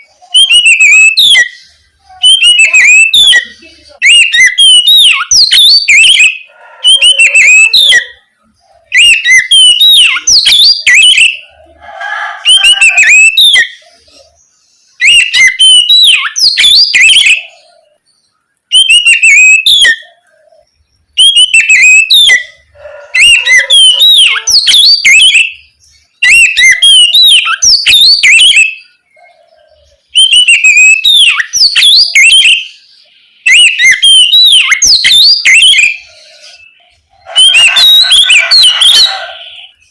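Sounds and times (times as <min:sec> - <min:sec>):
bird singing whistles and trills: 0:00.0 - 0:11.8, 0:12.4 - 0:39.9
rough bird chatter: 0:00.0 - 0:39.9.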